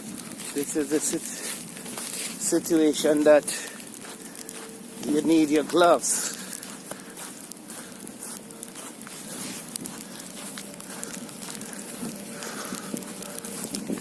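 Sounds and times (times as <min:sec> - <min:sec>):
faint steady hum: 0:00.0 - 0:14.0
ice pellets pattering: 0:00.0 - 0:14.0.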